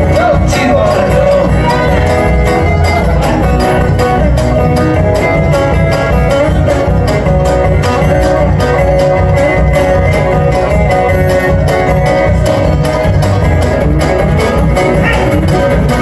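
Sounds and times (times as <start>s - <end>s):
bluegrass band playing: 0.0s - 16.0s.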